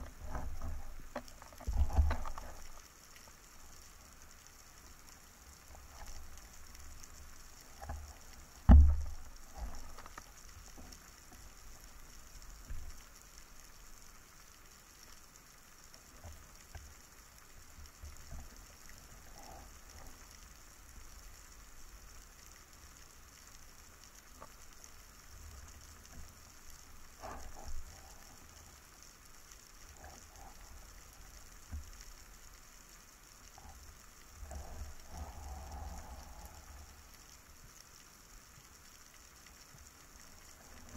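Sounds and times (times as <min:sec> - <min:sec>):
faint underwater hiss: 0:00.0 - 0:40.9.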